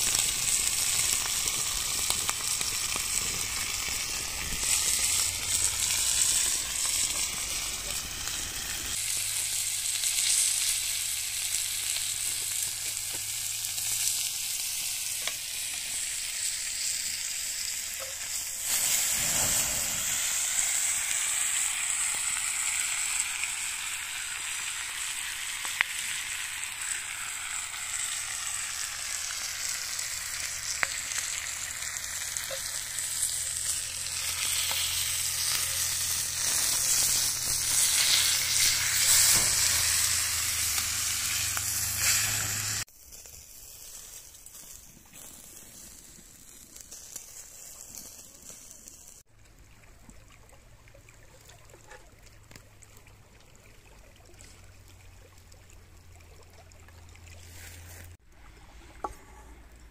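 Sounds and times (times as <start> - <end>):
meat sizzling on grill pan: 0.0 - 49.2.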